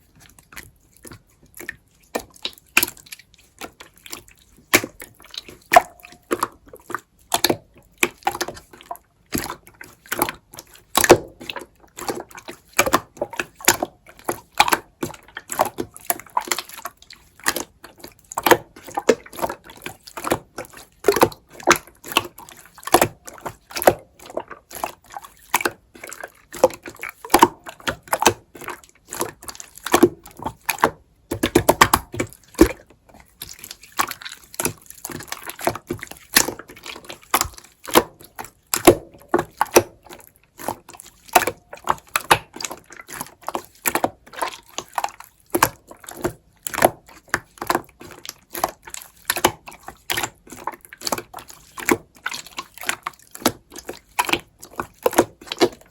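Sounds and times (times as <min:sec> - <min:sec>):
slime squished by hand: 0:00.1 - 0:55.9.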